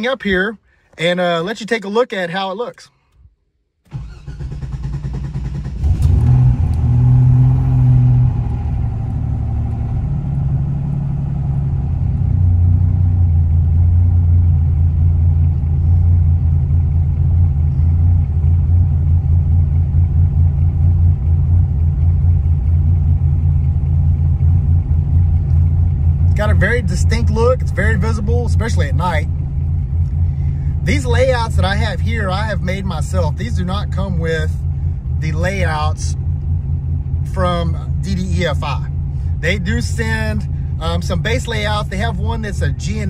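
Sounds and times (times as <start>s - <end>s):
car engine starting and idling: 0.0s - 43.0s.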